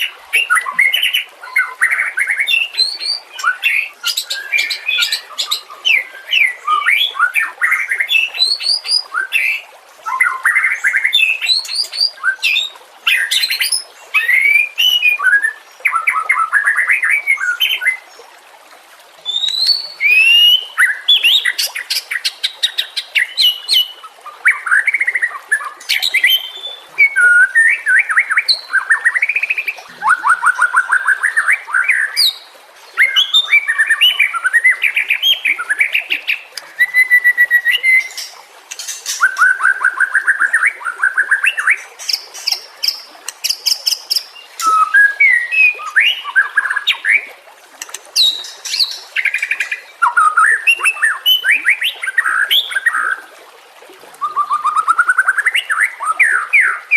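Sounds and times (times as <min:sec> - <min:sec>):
bird singing whistled phrases and trills: 0:00.0 - 0:18.0, 0:19.2 - 0:47.3, 0:48.2 - 0:53.2, 0:54.2 - 0:56.9.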